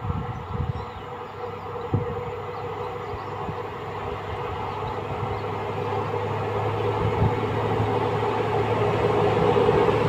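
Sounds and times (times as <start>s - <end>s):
diesel locomotive engine humming: 0.0s - 10.0s.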